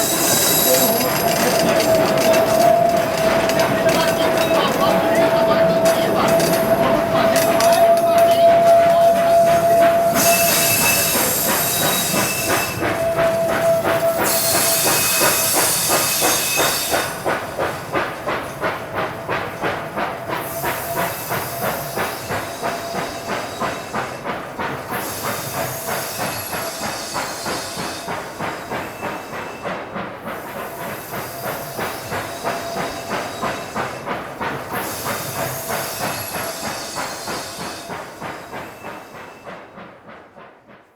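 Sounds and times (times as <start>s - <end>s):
steam hissing: 0.0s - 40.6s
steam locomotive exhaust beats: 0.0s - 40.9s.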